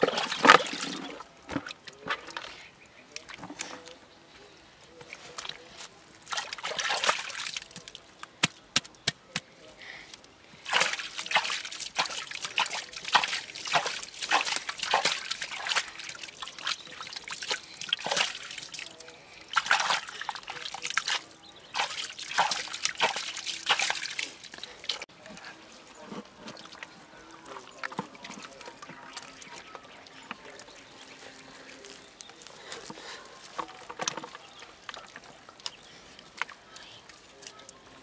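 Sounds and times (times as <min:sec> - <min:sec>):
hands scooping wet mud: 0:00.0 - 0:04.0, 0:05.0 - 0:38.0.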